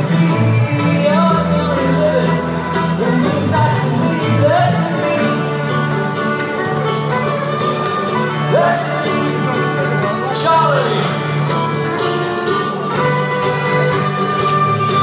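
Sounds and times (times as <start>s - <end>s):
electric guitar: 0.0s - 15.0s
fiddle sliding melody: 0.0s - 15.0s
strummed acoustic guitar: 0.0s - 15.0s.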